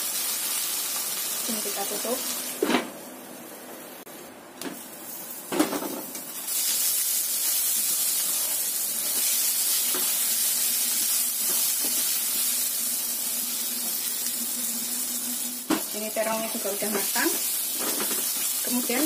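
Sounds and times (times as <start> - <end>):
vegetables sizzling in hot oil: 0.0 - 3.1, 4.8 - 19.0.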